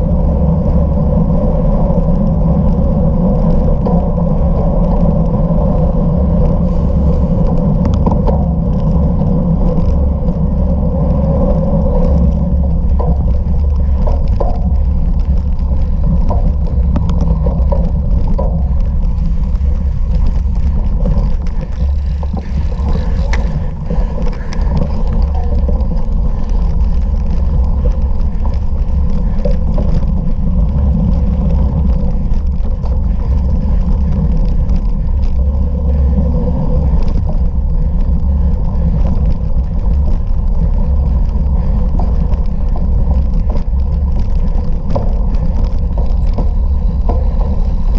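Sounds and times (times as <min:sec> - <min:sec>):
bicycle clicks and rattles: 0:00.0 - 0:47.9
wind rumble on microphone: 0:00.0 - 0:47.9.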